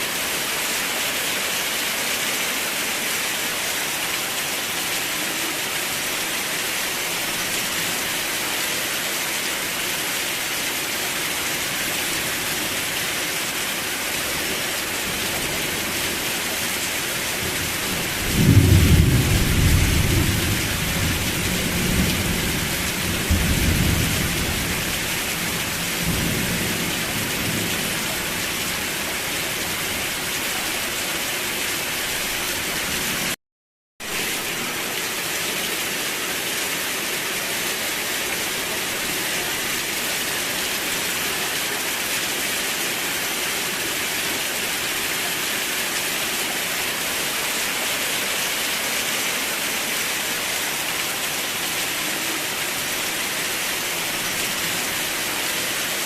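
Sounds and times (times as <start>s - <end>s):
heavy rain: 0.0s - 33.4s, 34.0s - 56.0s.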